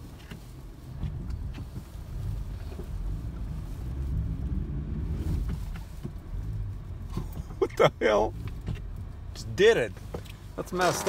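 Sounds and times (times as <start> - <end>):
car engine revving: 0.6 - 11.0.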